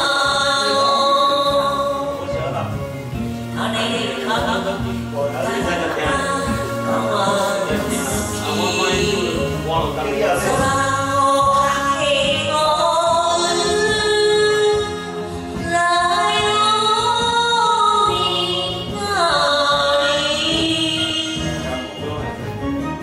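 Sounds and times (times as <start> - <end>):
woman singing karaoke: 0.0 - 2.4, 3.4 - 9.6, 10.3 - 22.0
karaoke backing track: 0.0 - 23.0.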